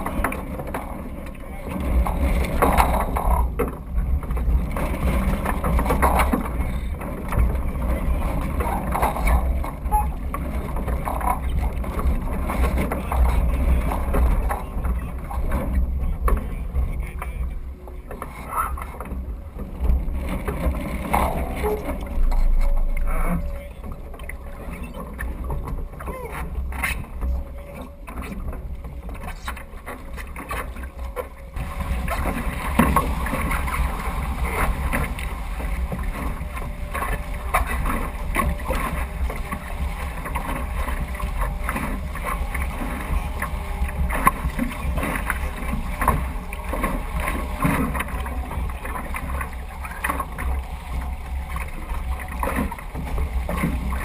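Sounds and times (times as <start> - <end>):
water rushing along boat hull: 0.0 - 54.0
wind rumble on microphone: 0.0 - 54.0.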